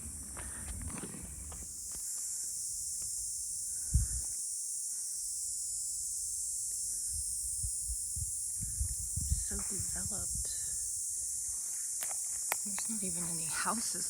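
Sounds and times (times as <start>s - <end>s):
steady high outdoor hiss: 0.0s - 14.0s.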